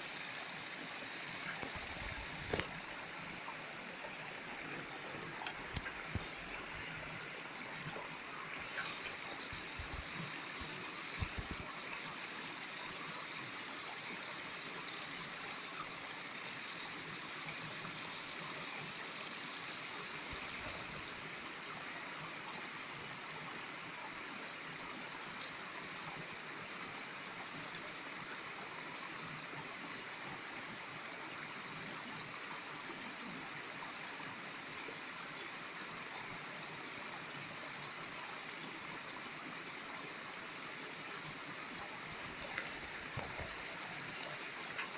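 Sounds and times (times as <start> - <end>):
stream running over rock: 0.0 - 44.9.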